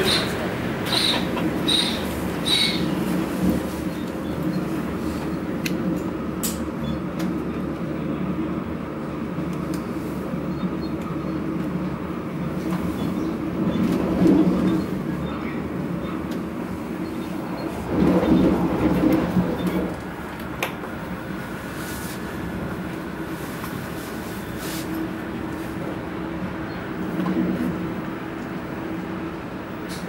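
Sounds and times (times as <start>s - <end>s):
train carriage rumble: 0.0s - 30.0s.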